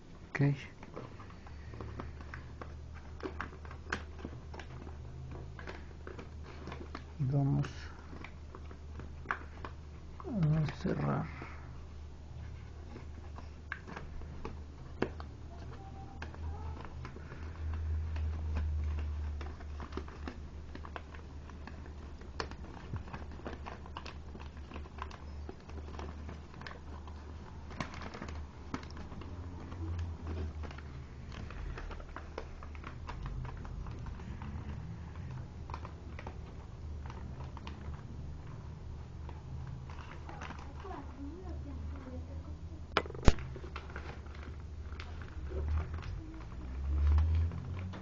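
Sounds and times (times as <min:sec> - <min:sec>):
paper crinkling as folded: 0:00.0 - 0:48.0.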